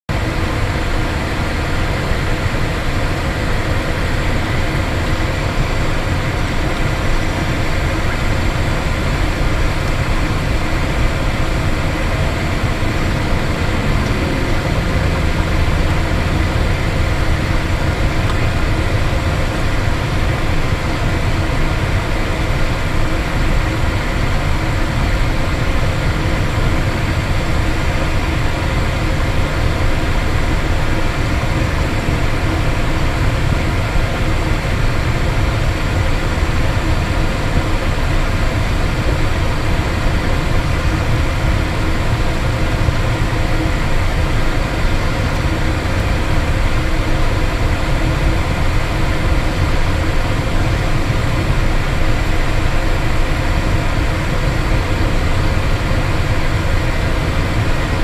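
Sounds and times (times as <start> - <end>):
jet engines droning: 0.1 - 58.0.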